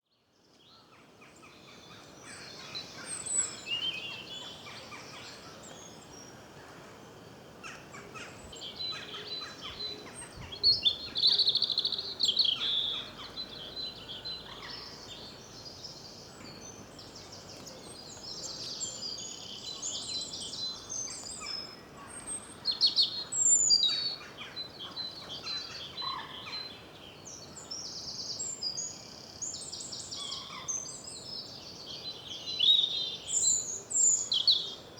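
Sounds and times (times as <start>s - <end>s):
songbirds singing and chirping: 0.2s - 34.9s.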